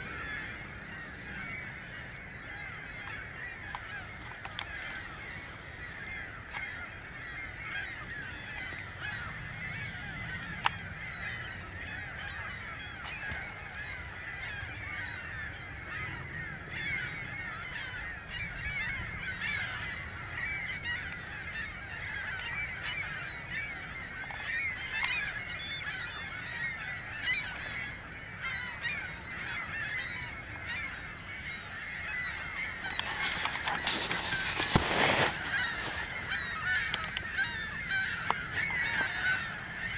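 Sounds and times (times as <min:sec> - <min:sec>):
flock of waterfowl honking: 0:00.0 - 0:39.9.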